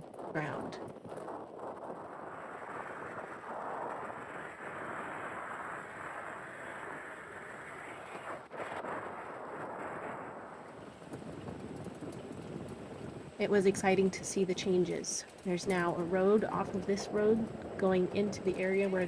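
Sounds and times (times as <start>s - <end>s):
vehicle road and wind noise: 0.0s - 19.0s.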